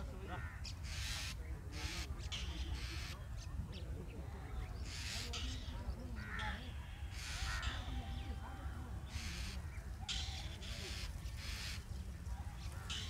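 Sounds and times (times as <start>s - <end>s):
harsh bird calls: 0.0s - 13.0s.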